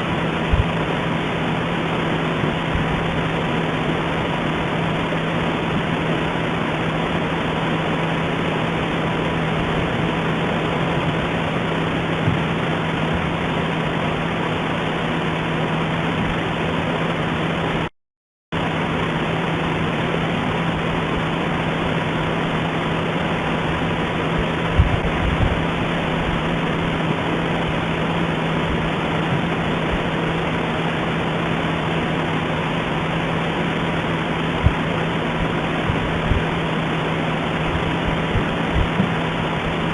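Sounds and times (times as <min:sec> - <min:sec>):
low hum: 0:00.0 - 0:17.9, 0:18.6 - 0:39.9.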